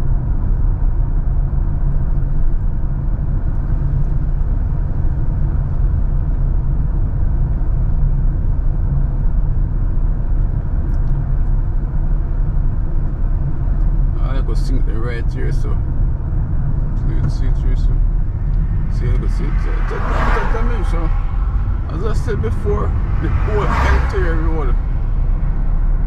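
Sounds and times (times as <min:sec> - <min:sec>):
car driving on rough road: 0:00.0 - 0:26.0.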